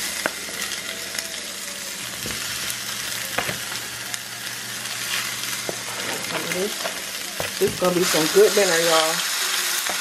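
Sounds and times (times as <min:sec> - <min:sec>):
oil sizzling in frying pan: 0:00.0 - 0:10.0.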